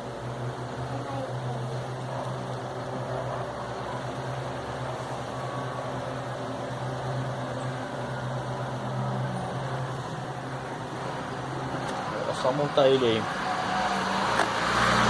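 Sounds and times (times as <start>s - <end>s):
electric fan motor hum: 0.0s - 15.0s.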